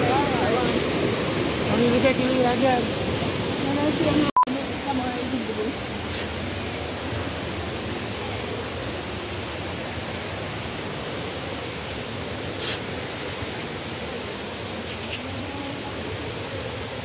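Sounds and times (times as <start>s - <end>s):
waterfall and river rushing: 0.0s - 17.0s.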